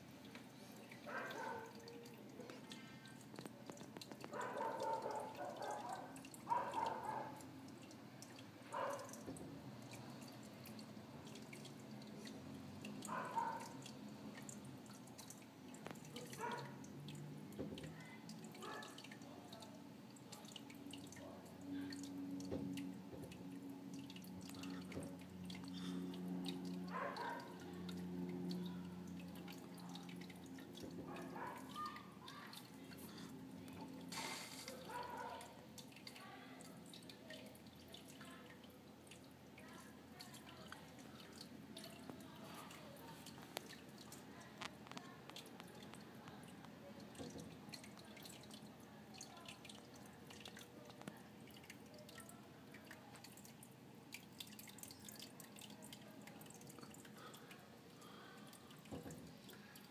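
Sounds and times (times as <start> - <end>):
water dripping and trickling: 0.0 - 59.9.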